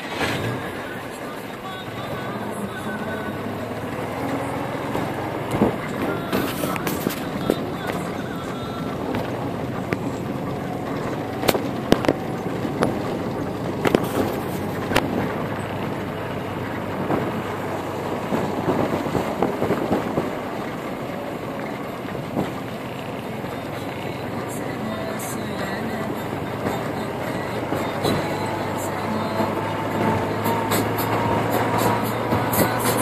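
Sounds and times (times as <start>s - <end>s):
tyres rumbling on dirt track: 0.0s - 33.0s.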